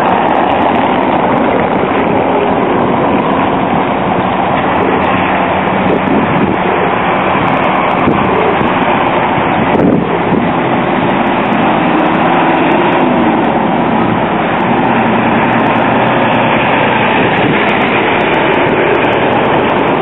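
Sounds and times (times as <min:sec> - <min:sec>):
vehicles driving on cobblestones: 0:00.0 - 0:20.0.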